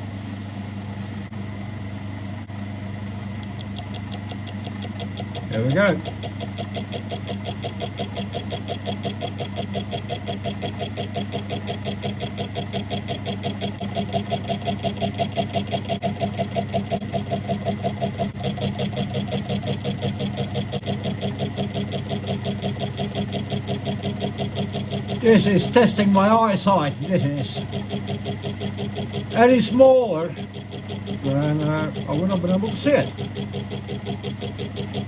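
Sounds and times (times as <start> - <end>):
lathe motor hum: 0.0 - 35.0
fast rhythmic pulse: 3.4 - 35.0.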